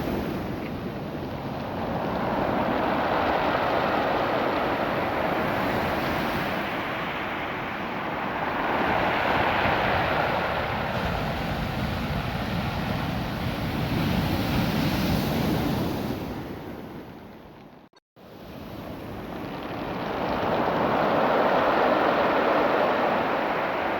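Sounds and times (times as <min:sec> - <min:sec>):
surf over pebble beach: 0:00.0 - 0:17.2, 0:18.3 - 0:23.9.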